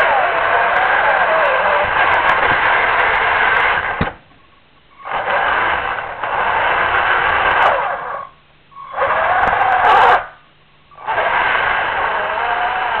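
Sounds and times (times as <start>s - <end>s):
rc vehicle motor whirring: 0.0s - 4.2s, 4.9s - 13.0s.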